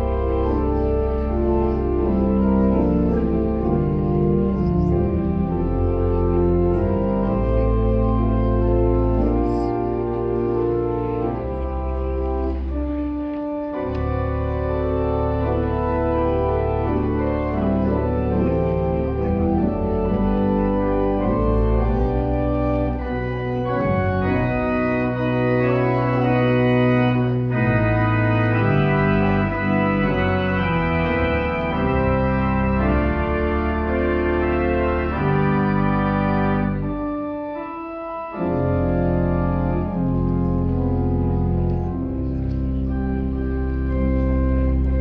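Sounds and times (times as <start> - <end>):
organ playing slow chords: 0.0 - 45.0.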